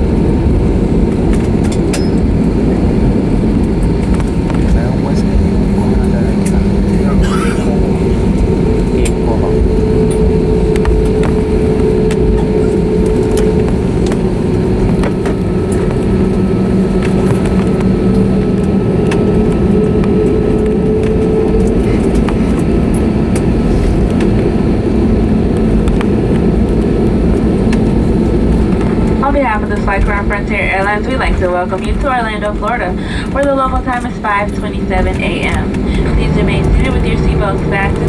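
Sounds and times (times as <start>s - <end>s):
aircraft engines humming: 0.0s - 38.0s.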